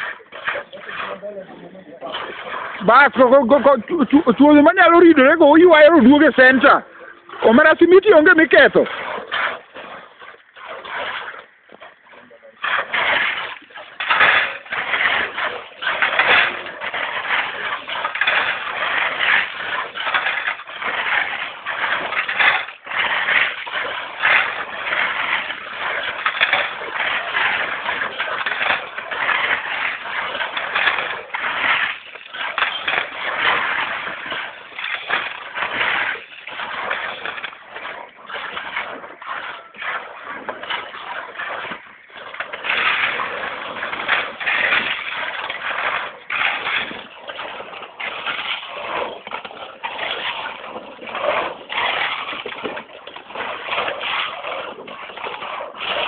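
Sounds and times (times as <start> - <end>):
shovels scraping gravel: 0.0 - 56.0.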